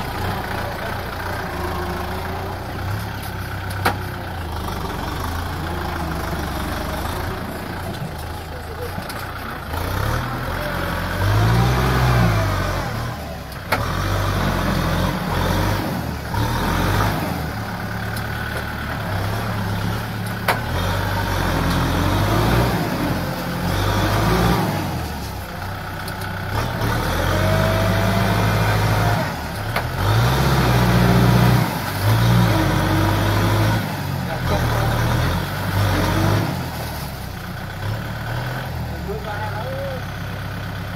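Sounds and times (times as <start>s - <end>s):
tractor diesel engine labouring: 0.0s - 40.9s.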